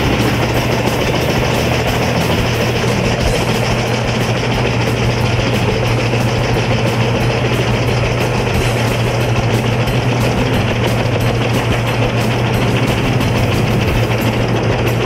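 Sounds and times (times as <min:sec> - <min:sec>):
background music: 0:00.0 - 0:15.0
wood chipper running: 0:00.0 - 0:15.0.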